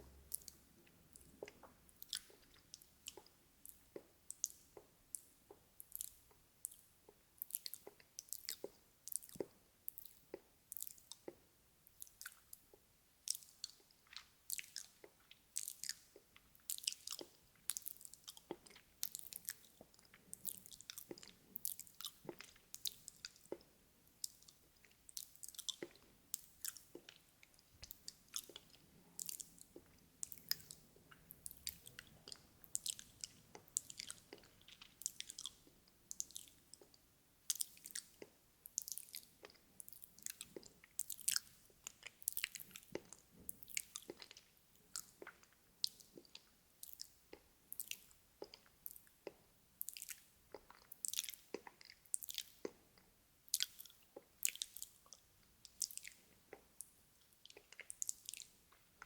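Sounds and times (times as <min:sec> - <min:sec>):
wet mouth clicks and lip smacks: 0:00.3 - 0:59.0.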